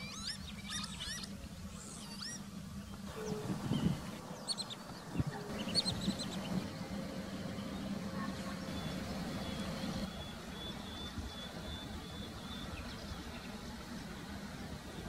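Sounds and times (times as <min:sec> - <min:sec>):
birds chirping: 0:00.0 - 0:15.0
steady low drone: 0:00.0 - 0:15.0
thin high whine: 0:00.0 - 0:15.0.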